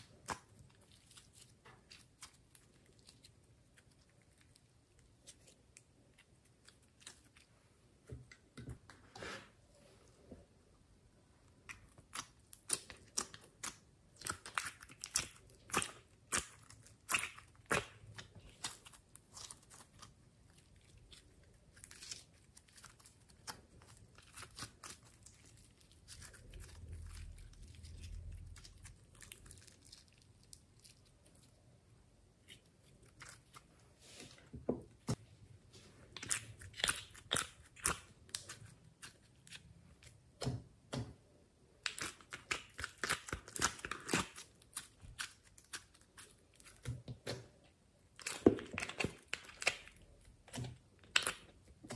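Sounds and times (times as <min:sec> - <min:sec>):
slime squishing and crackling: 0:00.0 - 0:07.6, 0:11.7 - 0:33.8, 0:36.2 - 0:40.6, 0:41.8 - 0:47.4, 0:48.0 - 0:51.9.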